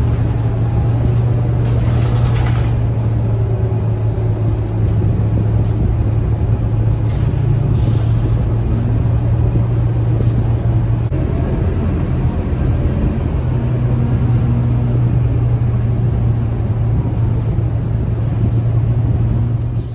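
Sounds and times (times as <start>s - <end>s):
bus diesel engine droning: 0.0s - 19.9s.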